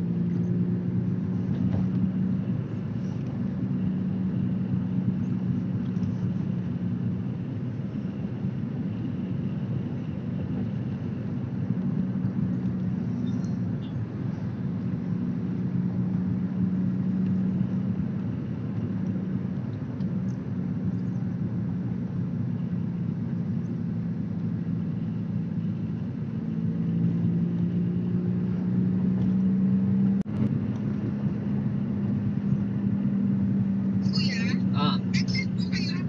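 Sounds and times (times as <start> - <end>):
road noise: 0.0 - 36.0
vehicle engine hum: 0.0 - 36.0.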